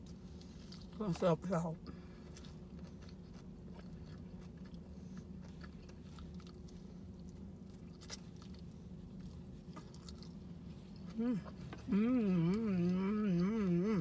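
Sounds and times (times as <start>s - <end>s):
low hum: 0.0s - 14.0s
person chewing: 1.8s - 14.0s.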